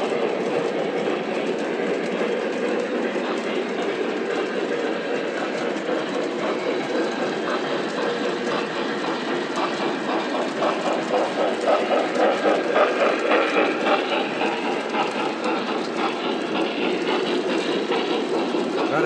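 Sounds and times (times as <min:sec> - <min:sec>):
model trains rolling rumble: 0:00.0 - 0:19.0
rhythmic locomotive pulsing: 0:00.0 - 0:19.0
wheels clicking over rail joints: 0:00.0 - 0:19.0.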